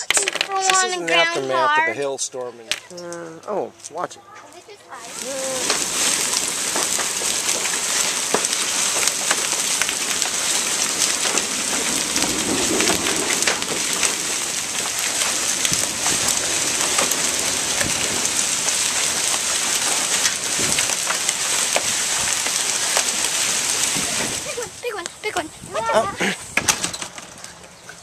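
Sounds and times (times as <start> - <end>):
heavy rain pouring: 0.0 - 2.1, 4.6 - 27.7
raindrops ticking on hard surfaces: 0.0 - 2.1, 2.7 - 28.0.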